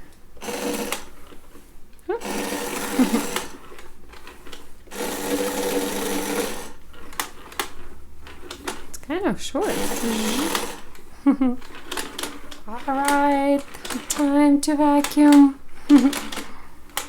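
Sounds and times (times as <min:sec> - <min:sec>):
toy vacuum motor whirring: 0:00.0 - 0:09.0, 0:09.6 - 0:17.0.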